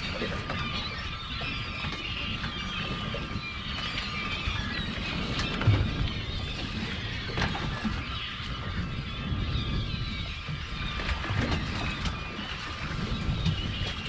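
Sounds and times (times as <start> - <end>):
boat rumble: 0.0 - 14.0
low wind: 0.0 - 14.0
seabirds calling: 0.0 - 14.0.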